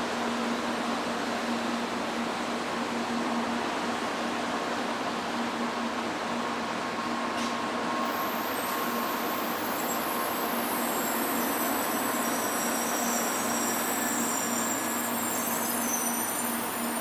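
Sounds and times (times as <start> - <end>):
high train whines: 0.0 - 17.0
wheels hissing on rails: 0.0 - 17.0.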